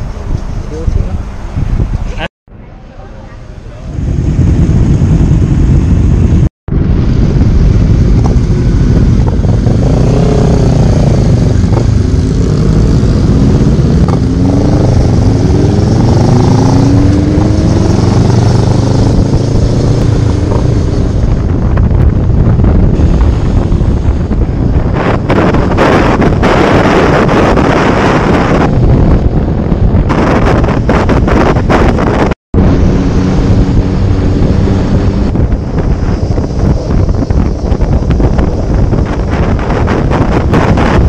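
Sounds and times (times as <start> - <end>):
wind buffeting microphone: 0.0 - 41.0
motorcycle engines accelerating: 3.7 - 28.8, 30.1 - 41.0.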